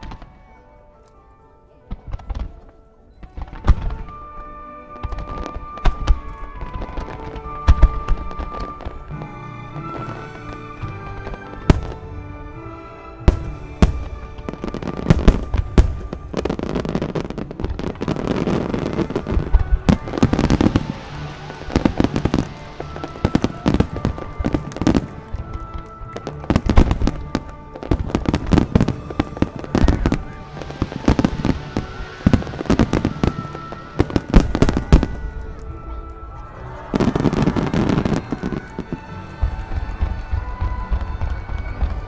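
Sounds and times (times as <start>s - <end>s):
music with long held notes: 0.0s - 42.0s
fireworks bangs and crackle: 1.9s - 42.0s.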